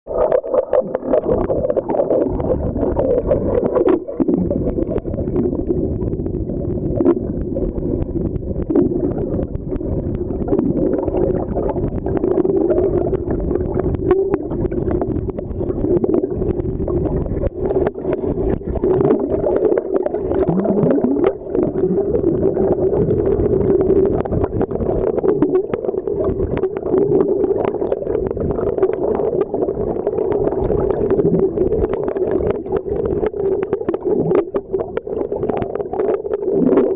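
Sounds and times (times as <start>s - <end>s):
steady underwater hum: 0.1s - 36.9s
underwater churning water and bubbles: 0.1s - 36.9s.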